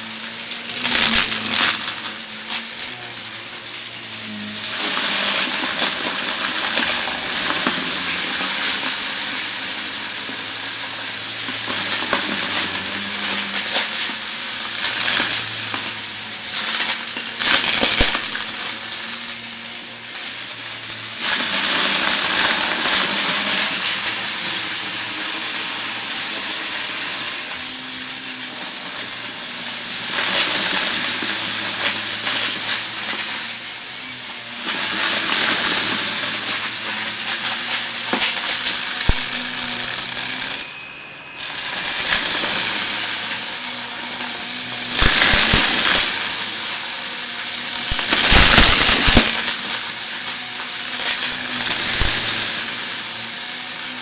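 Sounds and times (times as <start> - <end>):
debris crackling in vacuum: 0.0 - 54.0
vacuum cleaner running: 0.0 - 54.0.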